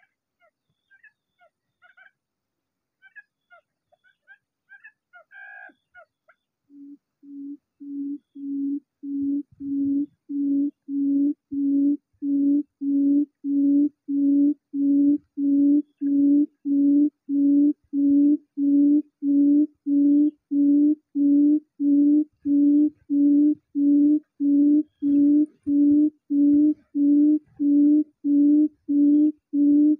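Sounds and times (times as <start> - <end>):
bird call low hoots: 3.0 - 29.9
faint high chirps: 5.6 - 29.9.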